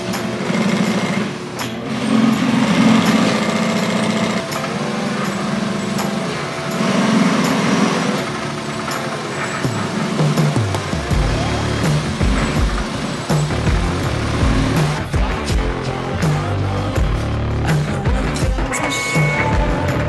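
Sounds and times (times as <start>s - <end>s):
sewing machines stitching: 0.0s - 16.4s.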